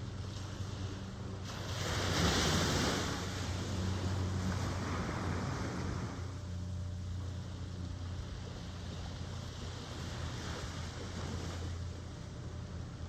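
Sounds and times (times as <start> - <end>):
ocean waves breaking: 0.0 - 12.9
steady low hum: 0.0 - 13.0.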